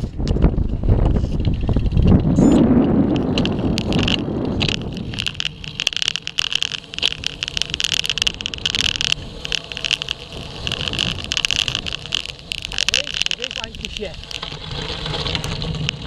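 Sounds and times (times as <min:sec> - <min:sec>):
bike rattling over tarmac: 0:00.0 - 0:16.0
wind buffeting microphone: 0:00.0 - 0:16.0.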